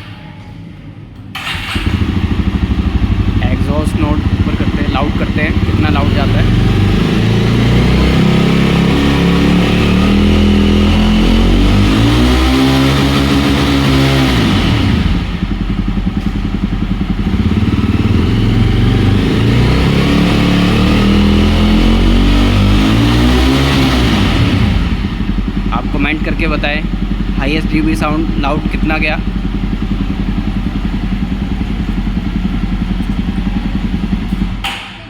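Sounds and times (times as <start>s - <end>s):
motorcycle engine revving: 1.4s - 35.0s.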